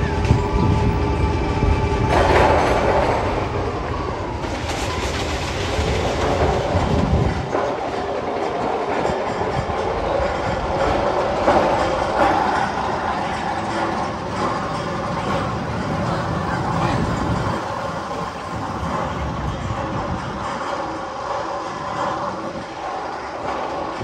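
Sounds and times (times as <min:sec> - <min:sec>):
roller coaster deep rumble: 0:00.0 - 0:24.0
roller coaster rattling on track: 0:00.0 - 0:24.0.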